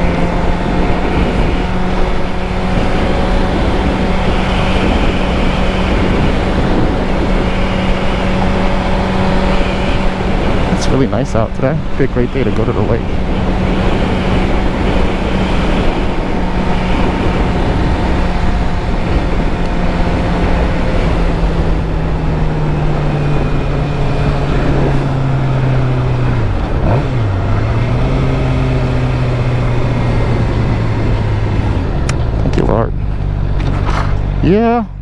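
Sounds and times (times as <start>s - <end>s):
motorcycle engine running: 0.0s - 35.0s
wind rumble on microphone: 0.0s - 35.0s.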